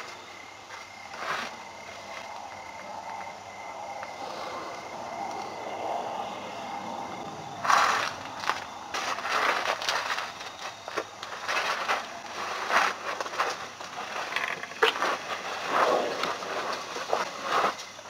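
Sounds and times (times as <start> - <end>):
rustling and crackling leaves: 0.0 - 18.0.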